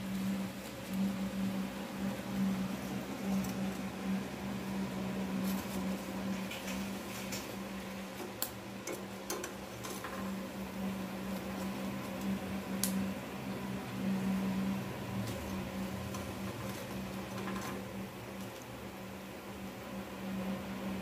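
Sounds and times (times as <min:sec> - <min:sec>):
pies sizzling in hot oil: 0:00.0 - 0:19.4
steady low hum: 0:00.0 - 0:21.0.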